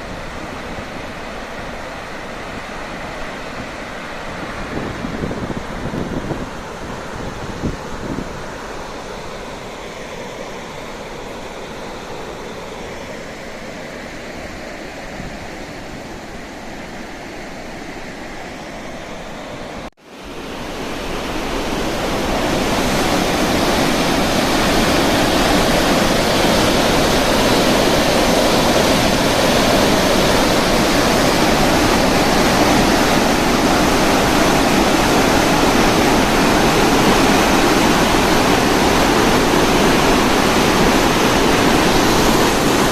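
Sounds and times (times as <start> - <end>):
floodwater rushing through spillway: 0.0 - 42.9.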